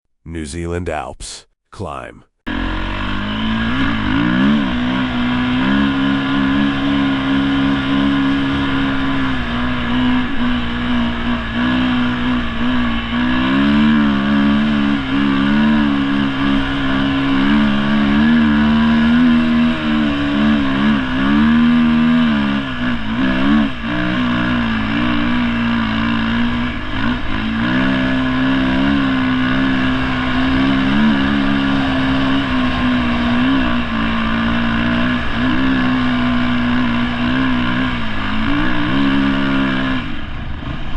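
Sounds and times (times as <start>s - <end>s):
dirt bike engine revving: 2.5s - 40.8s.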